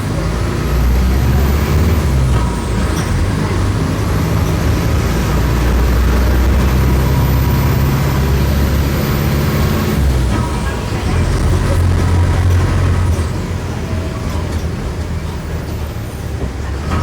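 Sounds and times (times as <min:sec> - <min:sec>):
diesel bus engine under load: 0:00.0 - 0:17.0
high engine whine: 0:00.0 - 0:17.0.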